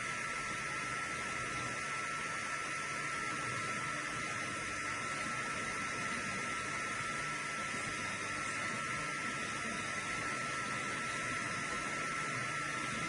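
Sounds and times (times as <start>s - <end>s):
constant high whine: 0.0s - 13.0s
printer fans hissing: 0.0s - 13.0s.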